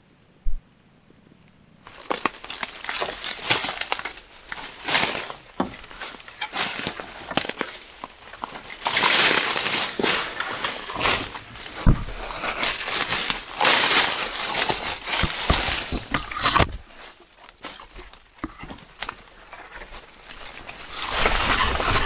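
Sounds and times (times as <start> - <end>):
dry leaves and twigs crunching: 1.8 - 22.0.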